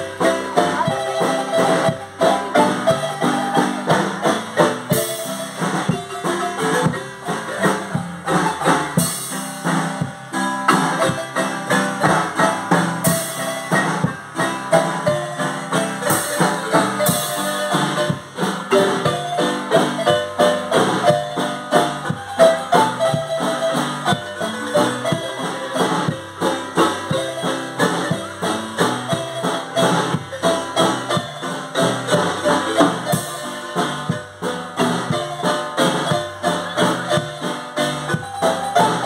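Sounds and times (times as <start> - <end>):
drums beating: 0.0 - 39.0
marimbas playing lively music: 0.0 - 39.0.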